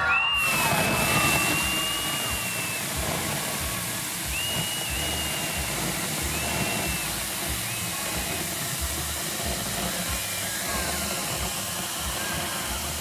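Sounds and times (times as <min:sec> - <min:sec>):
high thin squeal: 0:00.0 - 0:13.0
loud rushing hiss of air: 0:00.0 - 0:13.0.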